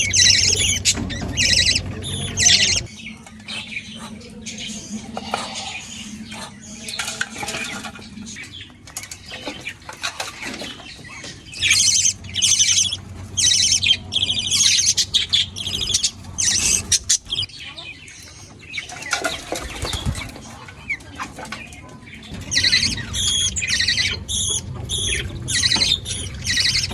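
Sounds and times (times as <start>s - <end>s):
pet birds squawking and chirping: 0.0s - 26.9s
soft bird chatter: 0.0s - 26.9s.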